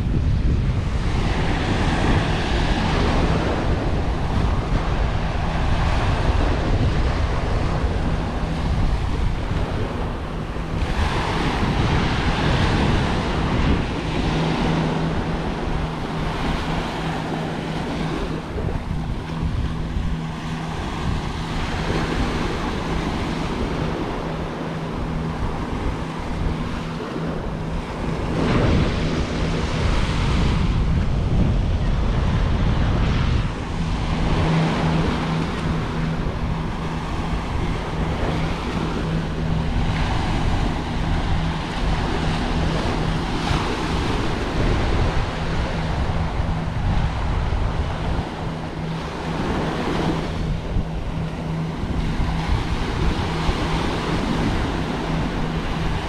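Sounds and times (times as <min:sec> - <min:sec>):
steady low hum: 0:00.0 - 0:56.0
wind on microphone: 0:00.0 - 0:56.0.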